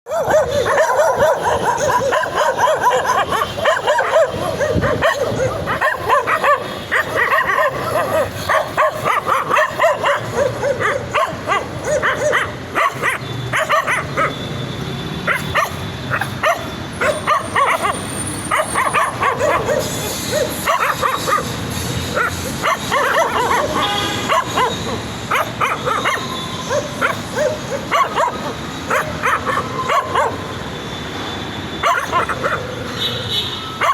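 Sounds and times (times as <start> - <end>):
puppies barking and yipping: 0.1 - 33.0.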